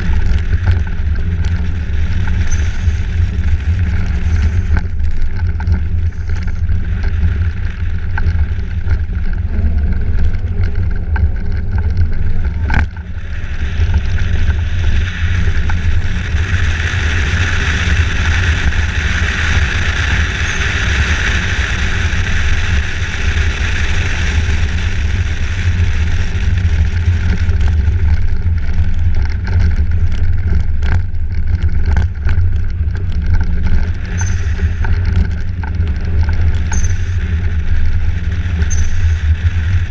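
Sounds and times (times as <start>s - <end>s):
moving vehicle rumble: 0.0s - 39.9s.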